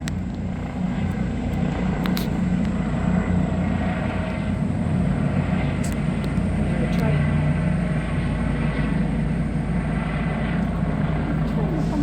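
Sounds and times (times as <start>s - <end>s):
helicopter rotor drone: 0.0s - 12.0s.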